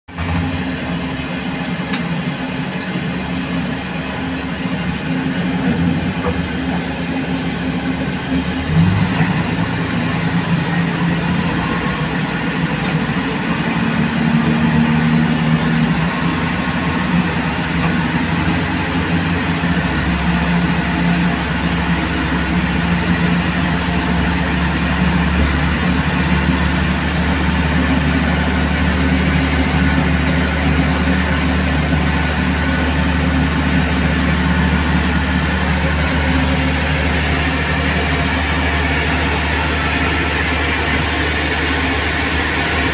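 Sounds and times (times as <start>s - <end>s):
tug engine droning under load: 0.1s - 42.9s.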